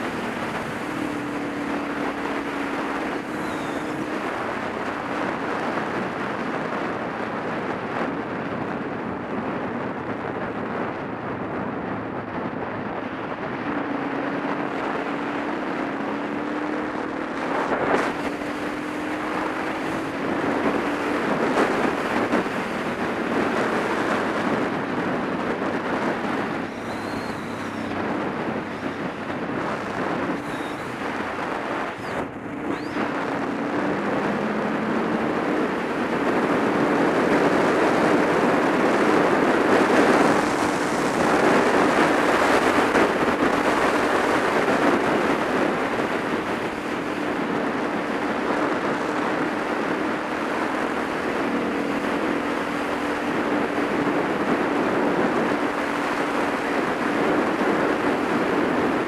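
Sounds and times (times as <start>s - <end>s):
motorcycle engine: 0.0s - 10.5s, 11.1s - 59.0s
wind rush over microphone: 0.0s - 59.0s.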